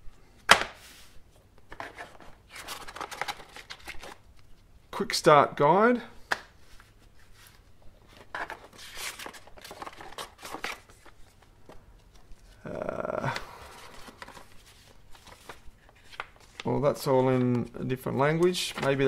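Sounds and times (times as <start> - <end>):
paper rustling and crinkling: 0.7 - 4.6, 6.6 - 12.6, 13.4 - 19.0.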